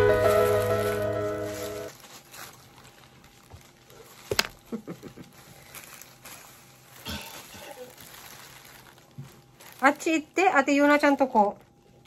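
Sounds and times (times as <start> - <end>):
rustle of plastic cape: 0.0 - 10.2.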